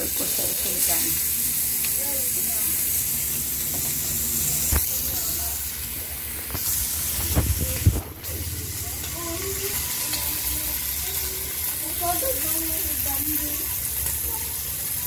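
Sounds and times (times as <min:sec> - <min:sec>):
pork frying in a pan: 0:00.0 - 0:15.0.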